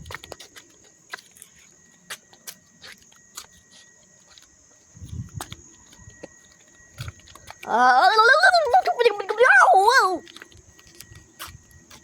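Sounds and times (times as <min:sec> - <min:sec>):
faint high-pitched insect hum: 0:00.0 - 0:12.0.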